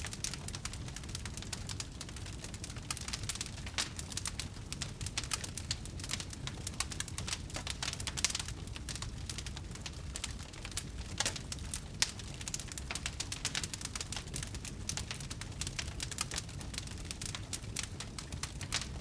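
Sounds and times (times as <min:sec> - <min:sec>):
fire pops: 0:00.0 - 0:19.0
low rumble of flames: 0:00.0 - 0:19.0
wood fire crackling: 0:00.0 - 0:19.0.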